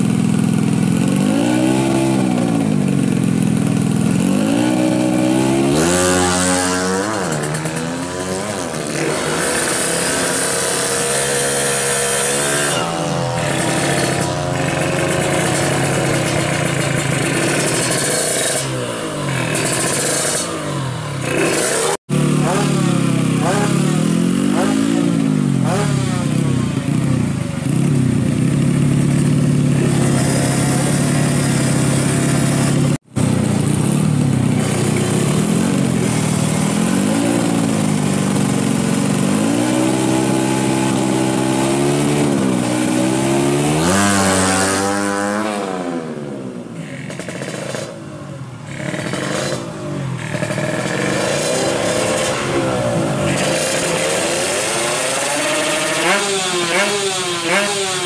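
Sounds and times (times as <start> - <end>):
moped engine revving: 0.0 - 58.0.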